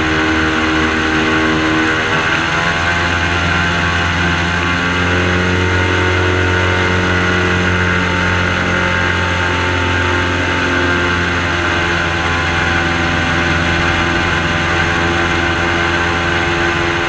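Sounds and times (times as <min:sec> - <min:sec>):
airboat engine and propeller droning: 0:00.0 - 0:17.0.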